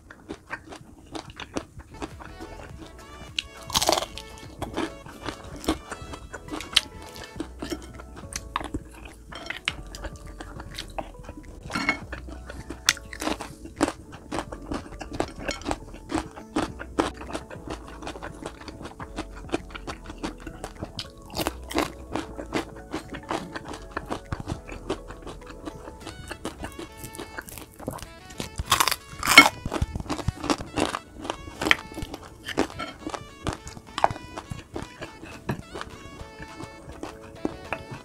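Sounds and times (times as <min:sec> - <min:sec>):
crunching bites and chewing: 0:00.0 - 0:38.0
light background music: 0:00.0 - 0:38.0.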